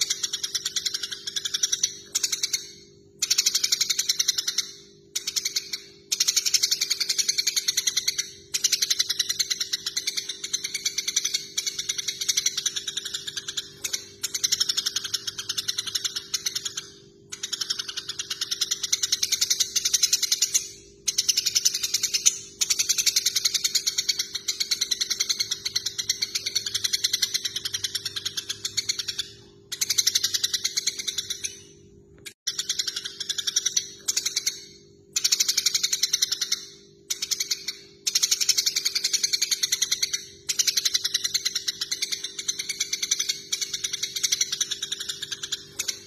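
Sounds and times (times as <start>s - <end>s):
sparrows chattering: 0.0s - 31.8s, 32.5s - 46.0s.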